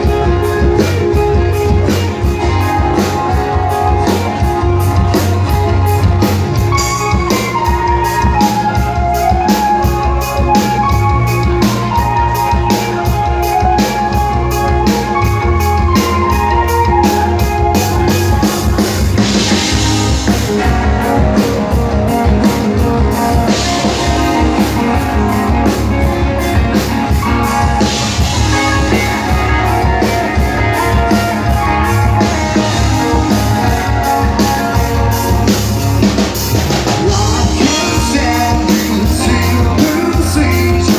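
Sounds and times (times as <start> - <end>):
drum kit beat: 0.0 - 40.9
guitar: 0.0 - 40.9
rock band playing live: 0.0 - 40.9.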